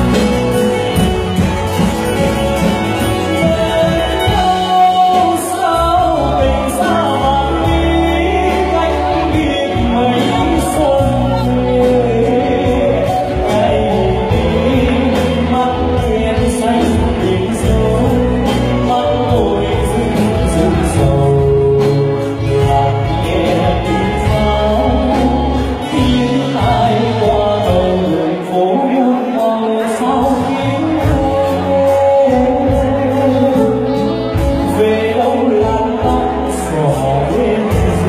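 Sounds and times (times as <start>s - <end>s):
live band with guitar: 0.0s - 38.0s
man singing into microphone: 2.6s - 38.0s.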